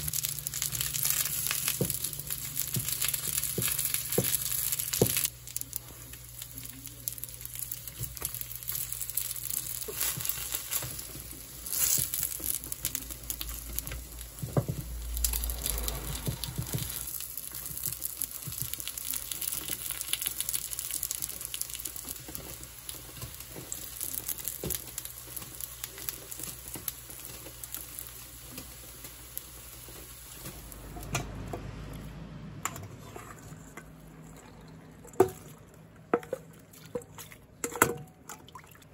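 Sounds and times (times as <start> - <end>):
food sizzling in oil: 0.0 - 31.3.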